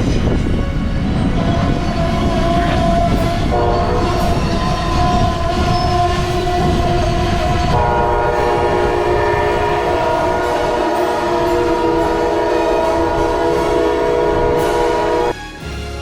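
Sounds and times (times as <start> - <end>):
train rumbling: 0.0 - 15.4
locomotive air horn: 0.1 - 15.7.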